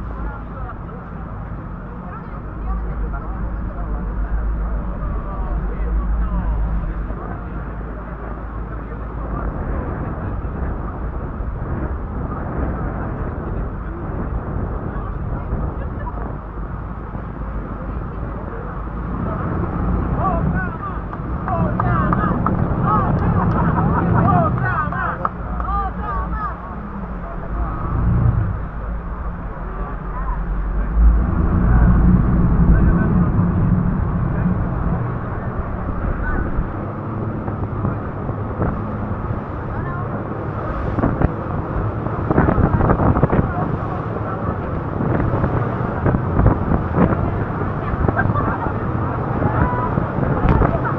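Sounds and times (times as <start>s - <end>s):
motorboat engine at speed: 0.0s - 50.9s
water rushing past hull: 0.0s - 50.9s
wind buffeting microphone: 0.0s - 50.9s.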